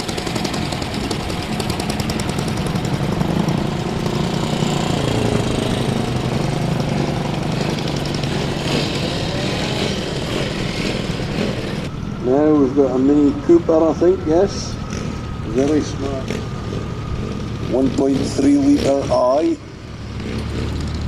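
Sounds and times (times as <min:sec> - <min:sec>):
old vehicle engine running: 0:00.0 - 0:21.0.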